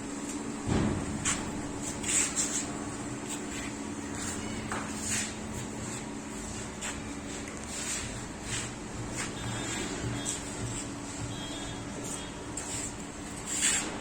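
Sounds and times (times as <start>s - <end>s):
furnace humming and whining: 0.0s - 14.0s.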